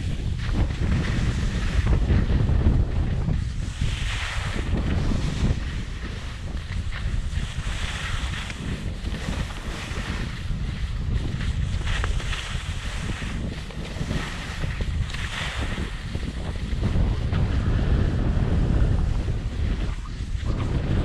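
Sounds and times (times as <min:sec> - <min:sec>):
skis sliding on snow: 0:00.0 - 0:21.0
wind rumbling on microphone: 0:00.0 - 0:21.0.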